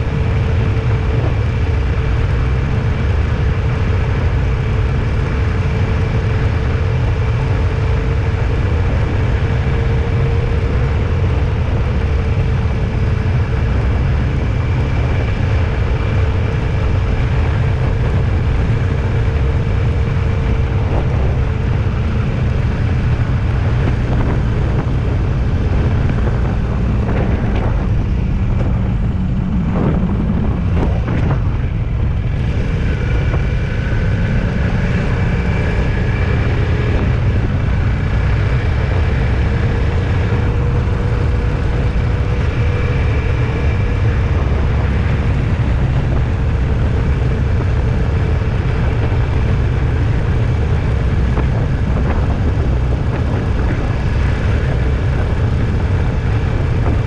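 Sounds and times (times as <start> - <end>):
vehicle road and engine noise: 0.0 - 57.0.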